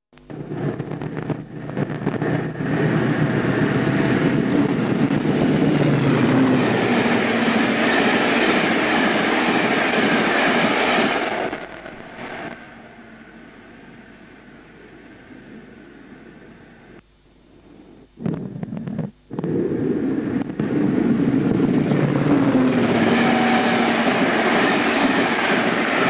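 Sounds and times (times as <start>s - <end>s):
train wheel noise: 0.2s - 16.9s, 19.4s - 26.0s
diesel locomotive passing: 0.3s - 17.0s, 20.0s - 26.0s.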